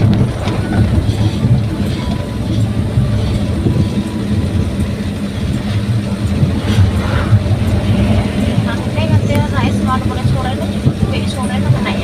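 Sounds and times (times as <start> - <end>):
pickup engine rumble: 0.0 - 12.0
road noise: 0.0 - 12.0.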